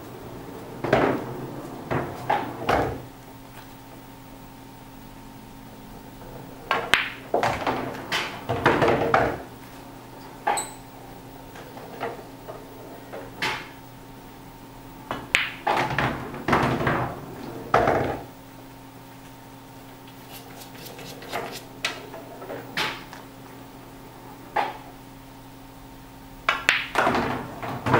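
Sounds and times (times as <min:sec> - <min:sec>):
pool balls clacking: 0:00.0 - 0:04.1, 0:05.5 - 0:13.9, 0:15.0 - 0:18.4, 0:19.8 - 0:25.1, 0:26.4 - 0:27.9
steady low hum: 0:00.0 - 0:27.9.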